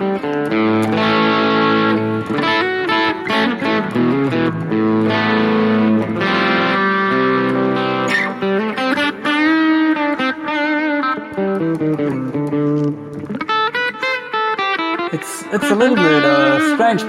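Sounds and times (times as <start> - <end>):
electric guitar with crunch tone: 0.0 - 17.0.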